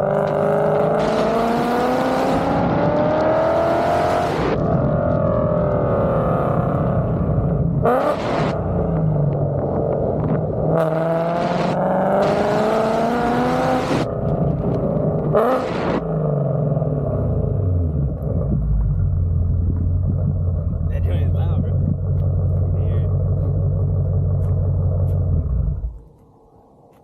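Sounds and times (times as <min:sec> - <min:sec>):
car exhaust accelerating: 0:00.0 - 0:26.2.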